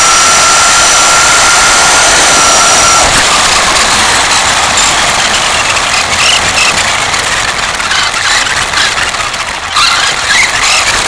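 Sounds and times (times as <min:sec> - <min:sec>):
high squeaks: 0:00.0 - 0:11.0
rc car rattling over bricks: 0:00.0 - 0:11.0.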